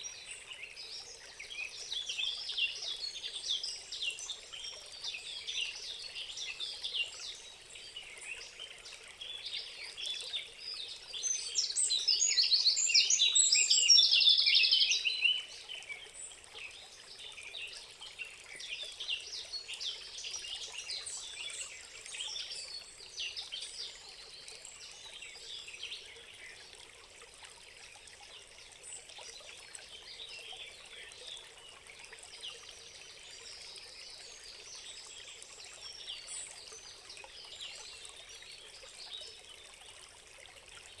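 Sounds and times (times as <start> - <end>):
trickle of running water: 0.0 - 41.0.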